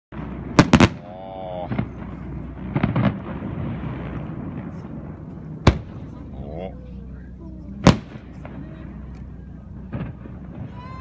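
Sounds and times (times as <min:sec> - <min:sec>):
fireworks bangs and booms: 0:00.1 - 0:06.3, 0:07.8 - 0:11.0
low background rumble: 0:00.1 - 0:11.0.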